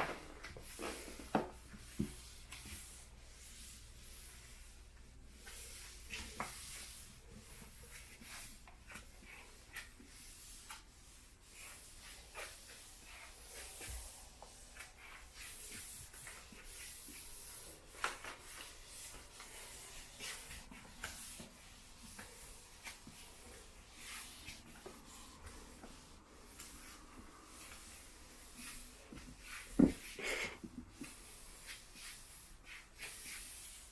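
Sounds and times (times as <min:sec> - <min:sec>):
floor wiper swishing on floor: 0:00.0 - 0:33.9.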